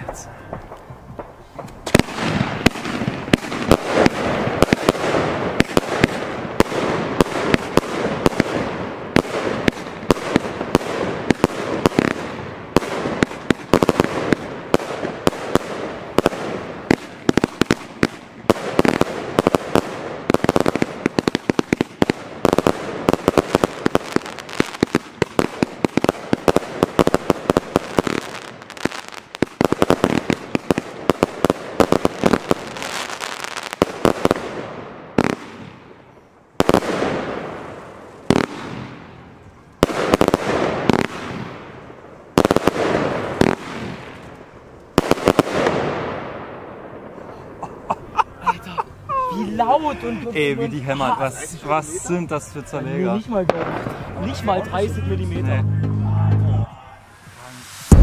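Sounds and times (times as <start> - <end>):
firework bangs: 0.0 - 48.0, 53.4 - 55.0, 57.1 - 58.0
firework crackle: 0.0 - 48.2, 53.2 - 54.5, 57.0 - 58.0.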